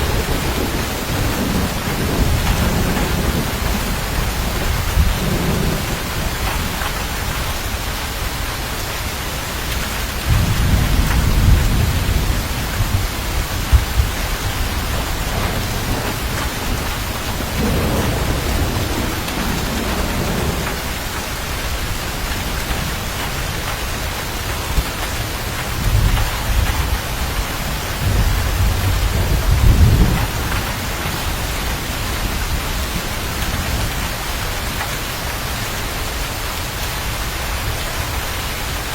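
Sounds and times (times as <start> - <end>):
thunder rolling: 0.0 - 7.8, 10.0 - 35.0
heavy rain hissing: 0.0 - 38.9.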